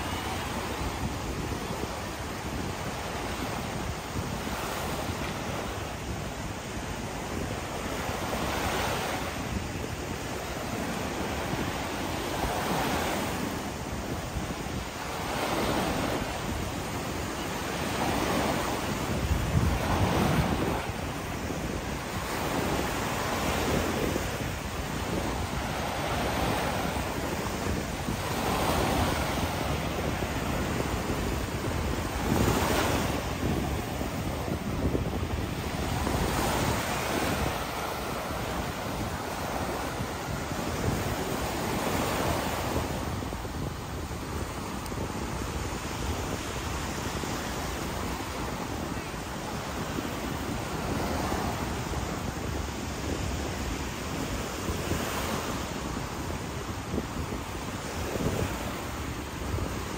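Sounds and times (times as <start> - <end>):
surf breaking on beach: 0.0 - 59.9
wind rumbling on microphone: 0.0 - 59.9.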